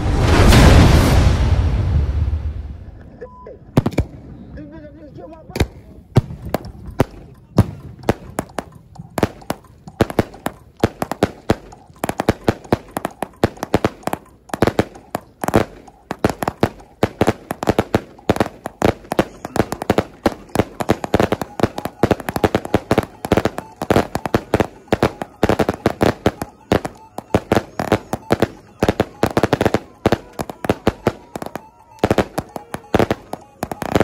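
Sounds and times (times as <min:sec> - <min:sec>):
fireworks launch pops and bursts: 0:03.8 - 0:04.3, 0:05.3 - 0:34.0.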